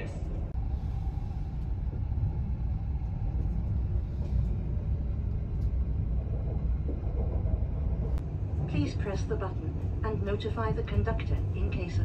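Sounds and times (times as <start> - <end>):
train low rumble inside cabin: 0.0 - 12.0.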